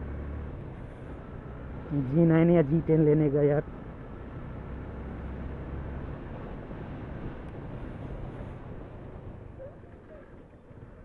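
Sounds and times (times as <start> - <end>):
motorcycle engine hum: 0.0 - 11.0
road and wind noise: 0.0 - 11.0.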